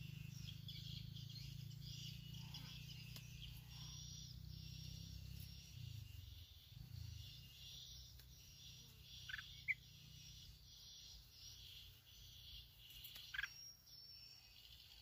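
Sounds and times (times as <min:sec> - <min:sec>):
bird calls: 0:00.0 - 0:15.0
insects chirring: 0:00.0 - 0:15.0.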